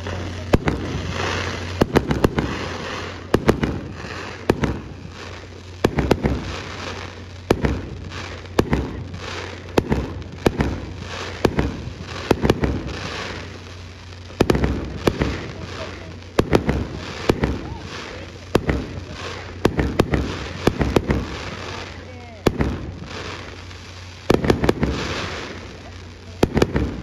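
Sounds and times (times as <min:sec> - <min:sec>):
firework shells bursting: 0:00.0 - 0:27.0.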